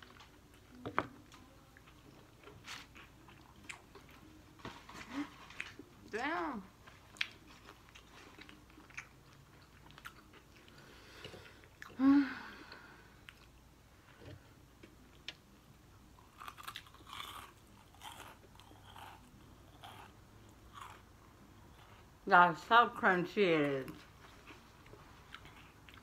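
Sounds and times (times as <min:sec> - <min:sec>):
chewing crunchy food: 0:00.0 - 0:06.1, 0:06.8 - 0:12.0, 0:12.7 - 0:22.2, 0:23.9 - 0:26.0.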